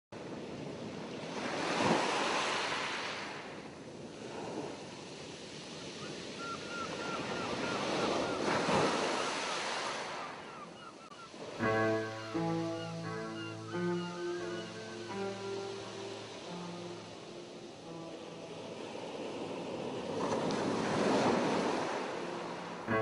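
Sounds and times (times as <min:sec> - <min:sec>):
small waves washing on sandy shore: 0:00.2 - 0:23.0.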